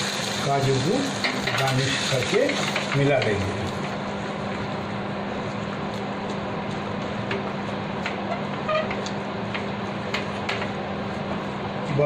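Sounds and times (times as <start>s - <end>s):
steady hiss and low hum: 0.0s - 12.0s.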